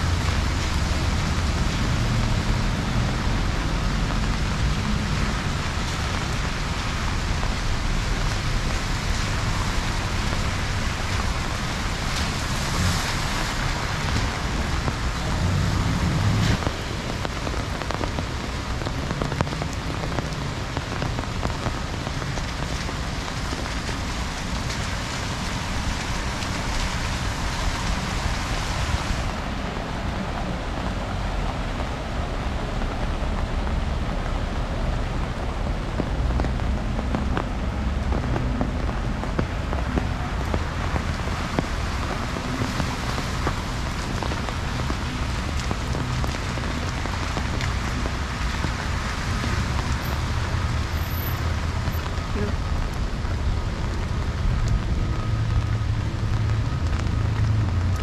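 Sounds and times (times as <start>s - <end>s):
heavy rain pattering: 0.0s - 58.0s
low rumble of city traffic: 0.0s - 58.0s.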